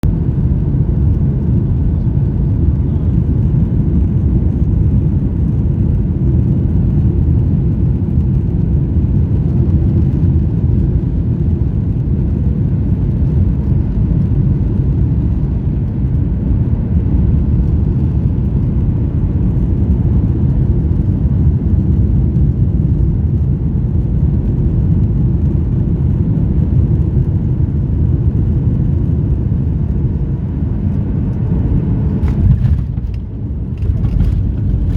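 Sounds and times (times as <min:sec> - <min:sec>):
jet airliner cabin rumble: 0:00.0 - 0:34.9.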